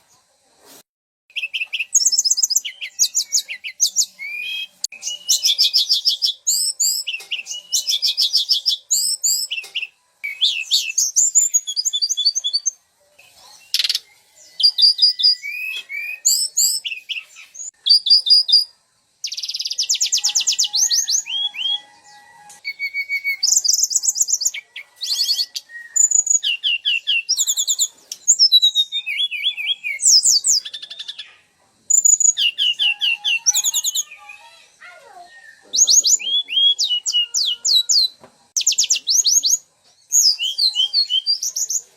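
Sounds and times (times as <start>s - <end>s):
songbirds trilling and chirping: 1.3s - 41.9s.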